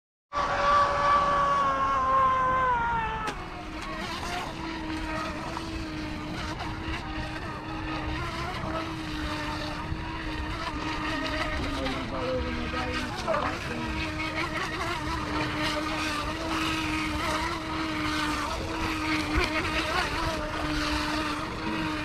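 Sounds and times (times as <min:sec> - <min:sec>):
electric motor whining: 0:00.4 - 0:22.0.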